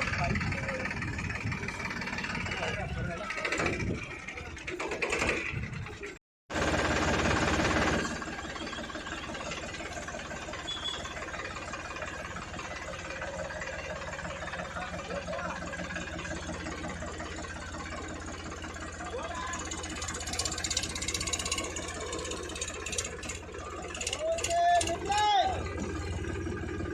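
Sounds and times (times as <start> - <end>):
tractor diesel engine idling: 0.0 - 26.9.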